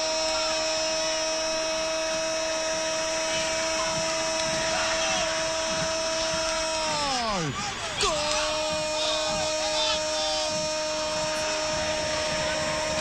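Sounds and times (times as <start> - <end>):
background noise haze: 0.0 - 13.0.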